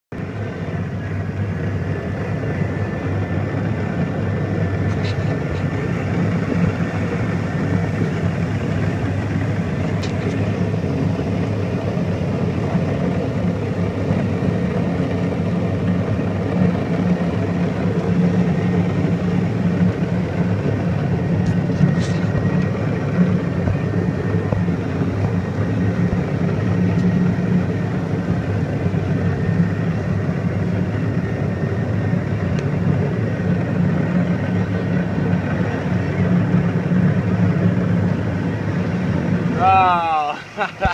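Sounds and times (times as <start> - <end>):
churned water rushing: 0.1 - 40.9
watercraft engine droning: 0.1 - 40.9.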